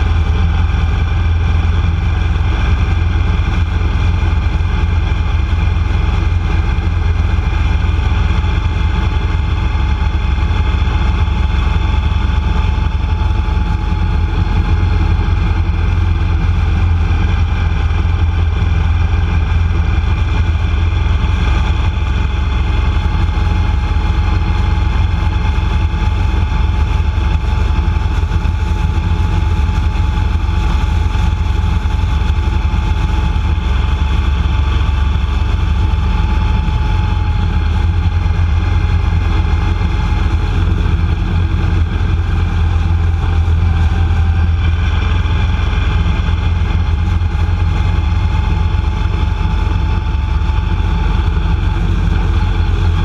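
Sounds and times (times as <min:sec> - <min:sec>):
vehicle driving on highway: 0:00.0 - 0:53.0.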